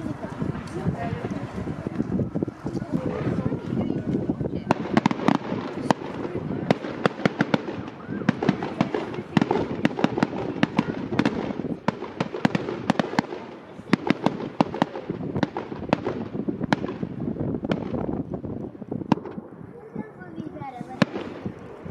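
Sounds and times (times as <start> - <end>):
distant firework bursts: 0.0 - 19.7, 20.6 - 21.9
fireworks bangs and crackles: 0.0 - 21.9.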